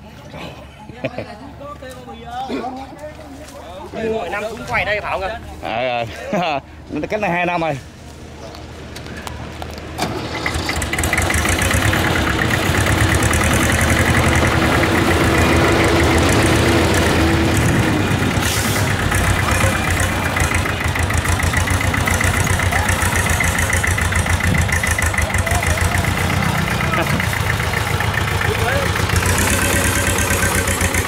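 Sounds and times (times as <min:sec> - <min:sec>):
tractor diesel engine: 0:04.0 - 0:31.0.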